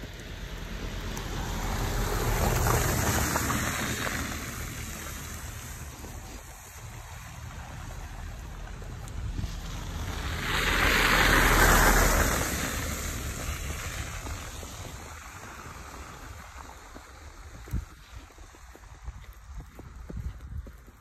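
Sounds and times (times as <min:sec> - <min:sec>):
vehicle driving past: 0:00.3 - 0:17.4.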